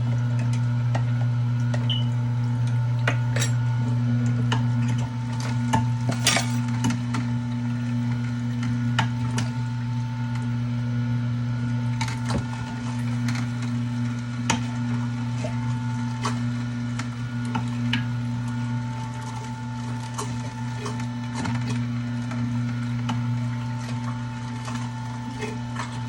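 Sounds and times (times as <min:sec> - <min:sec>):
electric juicer motor humming: 0:00.0 - 0:26.0.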